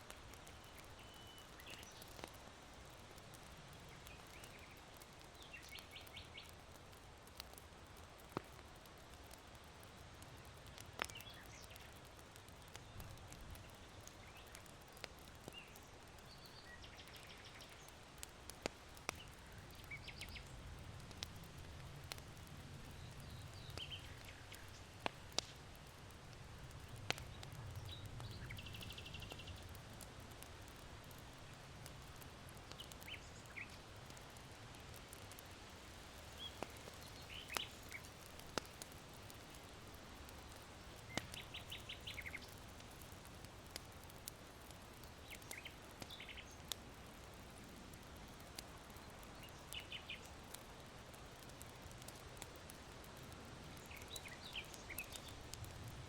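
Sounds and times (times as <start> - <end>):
charcoal crackling and popping: 0.0 - 56.0
small birds chirping: 0.1 - 6.7, 10.3 - 25.8, 26.8 - 29.8, 30.7 - 35.5, 36.2 - 50.6, 53.7 - 55.7.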